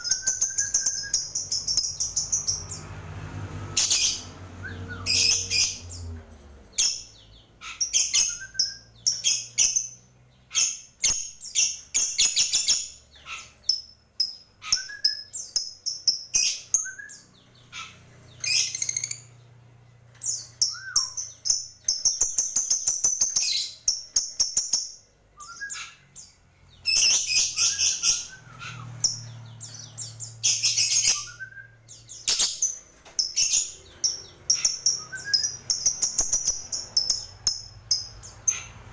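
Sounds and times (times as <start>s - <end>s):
bird chirping and squeaking: 0.0s - 2.9s, 3.7s - 19.5s, 20.1s - 38.9s.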